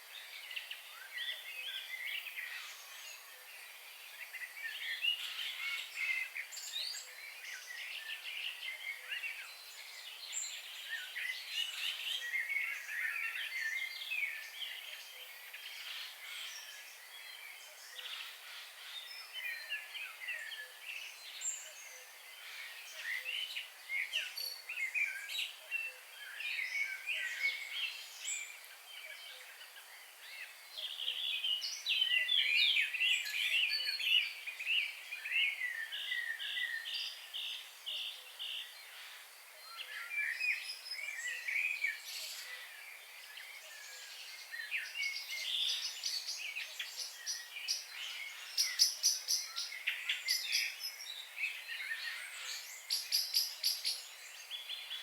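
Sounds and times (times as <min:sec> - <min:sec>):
birds singing and chirping: 0:04.2 - 0:55.0.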